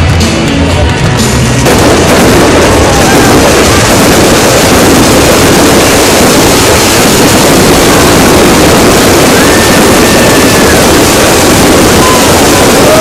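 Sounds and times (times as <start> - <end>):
fireworks crackling and banging: 1.2 - 13.0.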